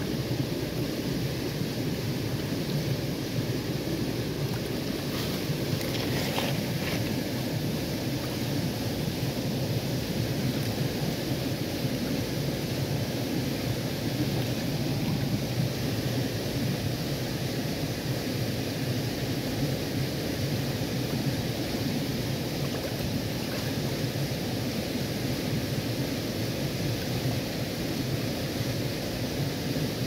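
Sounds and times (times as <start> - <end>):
stream rushing over pebbles: 0.0 - 30.0.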